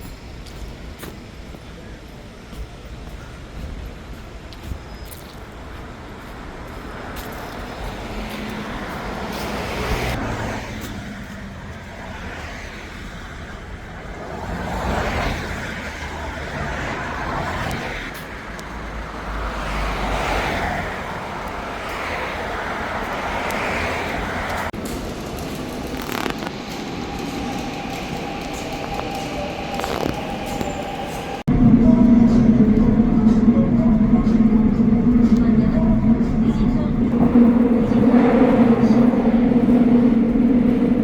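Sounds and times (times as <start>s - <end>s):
vehicles going past: 3.6s - 41.0s.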